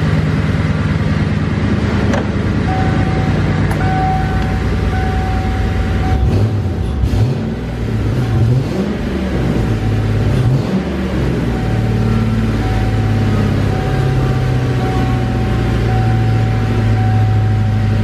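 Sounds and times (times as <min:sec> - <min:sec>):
car engine revving loudly: 0:01.7 - 0:18.0.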